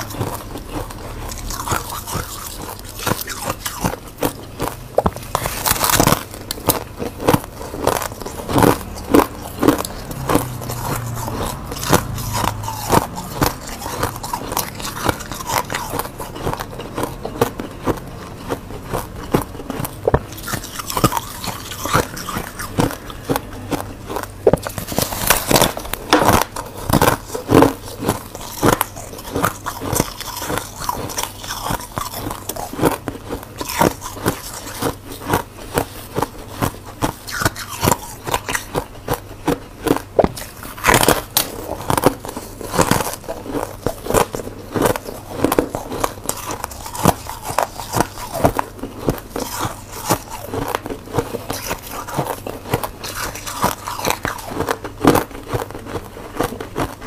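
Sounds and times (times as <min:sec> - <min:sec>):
chewing frost crunches: 0:00.0 - 0:57.0.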